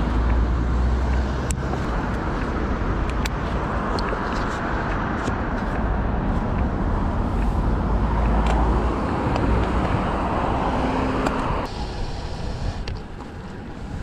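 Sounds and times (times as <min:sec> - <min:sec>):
road noise: 0:00.0 - 0:14.0
rushing wind noise: 0:00.0 - 0:14.0.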